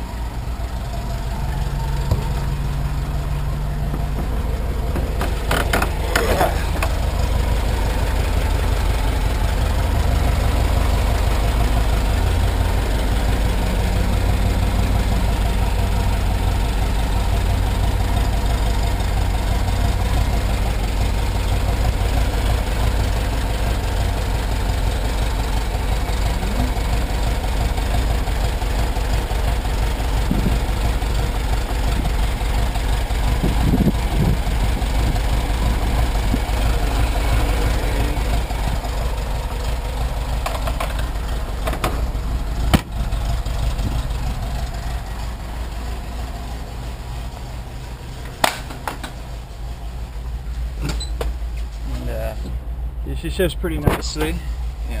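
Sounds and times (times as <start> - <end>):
van engine idling: 0.0 - 55.0.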